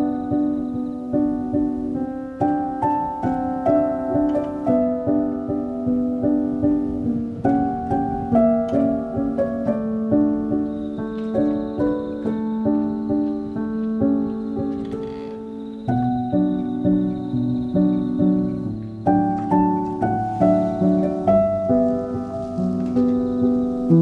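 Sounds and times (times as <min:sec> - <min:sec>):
calm instrumental melody: 0:00.0 - 0:24.0.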